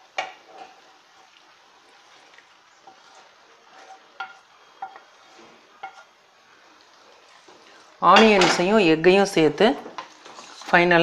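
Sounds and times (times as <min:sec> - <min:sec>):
spatula scraping a pan: 0:00.0 - 0:08.8, 0:09.8 - 0:11.0.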